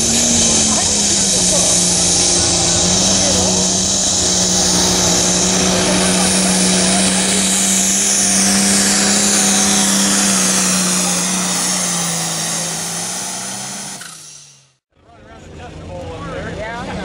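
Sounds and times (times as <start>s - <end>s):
diesel engine droning under load: 0.0s - 14.8s.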